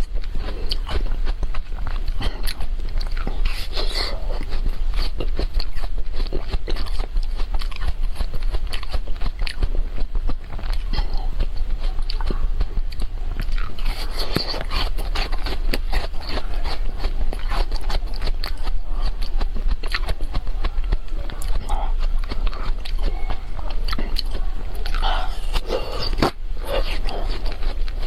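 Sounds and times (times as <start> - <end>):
steady low hum: 0.0 - 28.0
wet chewing: 0.0 - 28.0.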